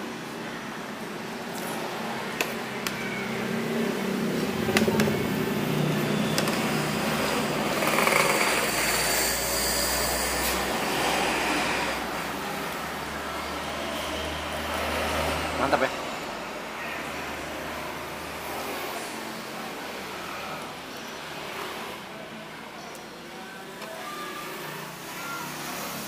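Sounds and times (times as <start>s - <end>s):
steady mechanical hum: 0.0s - 26.0s
passing traffic rumble: 0.2s - 9.6s, 10.5s - 22.6s.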